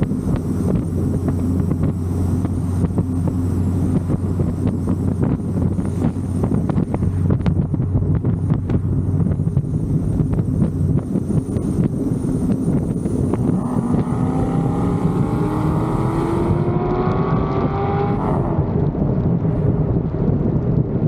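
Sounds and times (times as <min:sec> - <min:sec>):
car engine accelerating: 0:00.0 - 0:21.0
wind buffeting microphone: 0:00.0 - 0:21.0.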